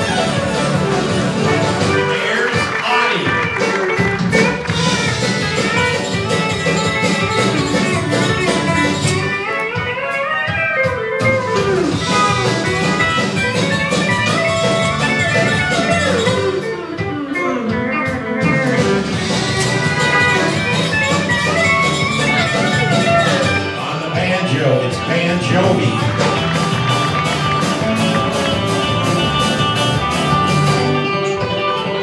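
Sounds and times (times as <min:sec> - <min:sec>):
live country band playing: 0:00.0 - 0:32.0
pedal steel guitar gliding notes: 0:00.0 - 0:32.0.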